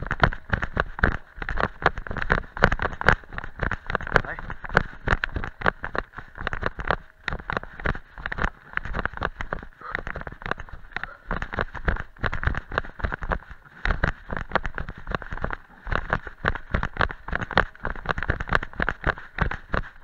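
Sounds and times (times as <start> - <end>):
running footsteps on stony path: 0.0 - 20.0.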